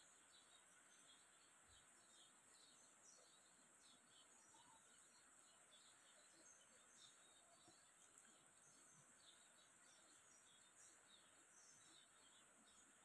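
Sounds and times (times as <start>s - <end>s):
faint background hiss: 0.0s - 13.0s
faint chirps: 0.0s - 13.0s.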